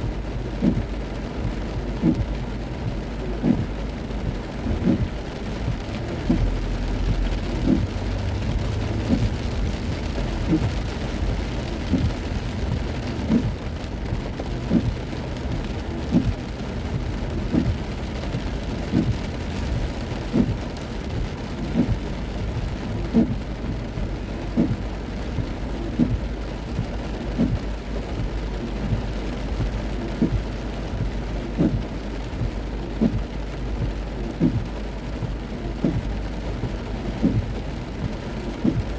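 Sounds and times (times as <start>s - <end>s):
soft low thump: 0.0s - 17.9s, 18.8s - 22.0s, 22.6s - 38.9s
heavy rain drumming on car: 0.0s - 38.9s.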